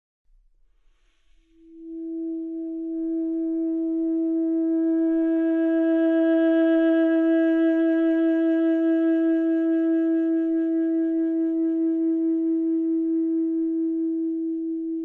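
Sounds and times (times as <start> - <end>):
long held music note: 1.2 - 15.0.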